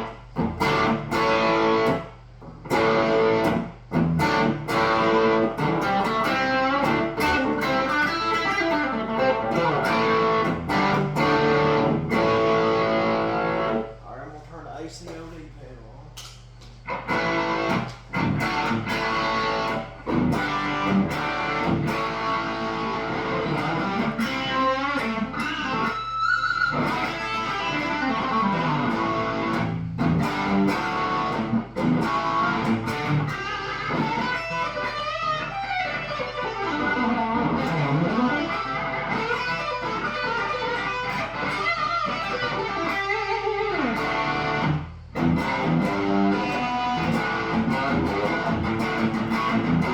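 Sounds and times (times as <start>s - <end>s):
overdriven electric guitar: 0.0s - 14.0s, 16.8s - 49.9s
low amp hum: 0.0s - 49.9s.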